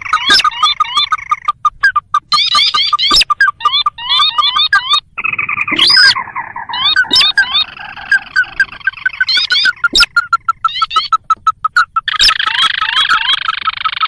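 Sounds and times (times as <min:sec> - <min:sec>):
crakes calling and trilling: 0:00.0 - 0:14.0.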